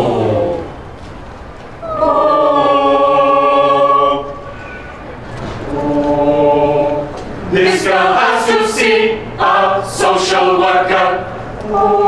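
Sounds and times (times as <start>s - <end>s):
chamber choir singing: 0.0s - 0.8s, 1.8s - 12.0s.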